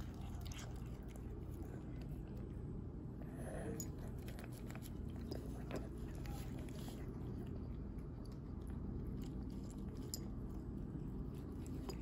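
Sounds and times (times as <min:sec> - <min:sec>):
kittens chewing meat: 0:00.0 - 0:12.0
steady low rumble: 0:00.0 - 0:12.0.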